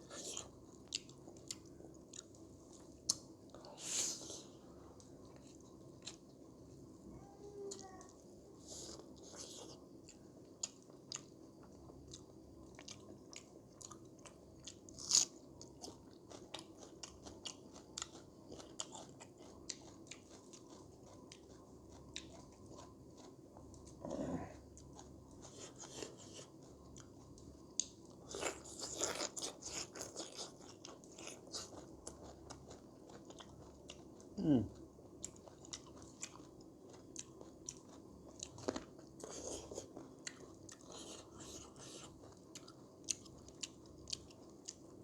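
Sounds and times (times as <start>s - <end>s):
person chewing and crunching food: 0.0s - 6.5s, 8.6s - 45.0s.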